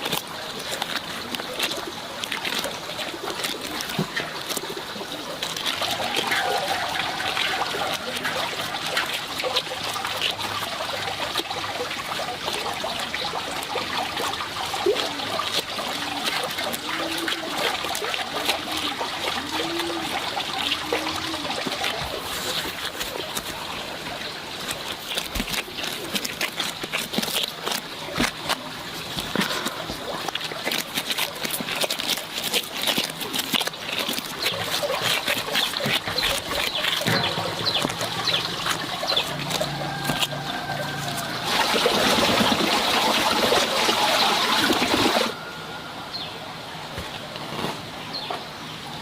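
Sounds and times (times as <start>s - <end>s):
water trickling and splashing: 0.0s - 49.0s.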